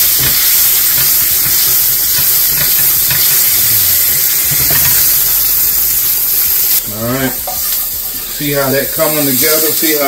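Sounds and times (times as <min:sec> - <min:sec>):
pork sizzling in a skillet: 0:00.0 - 0:10.0.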